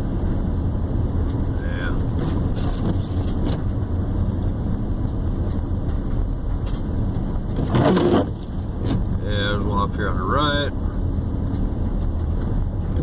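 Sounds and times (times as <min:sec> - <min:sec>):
car road noise over slush: 0:00.0 - 0:13.0.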